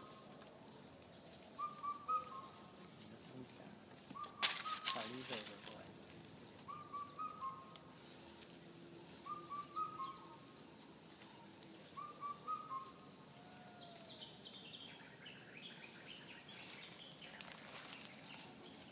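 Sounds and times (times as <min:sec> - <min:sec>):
faint birdsong: 0:00.0 - 0:18.9.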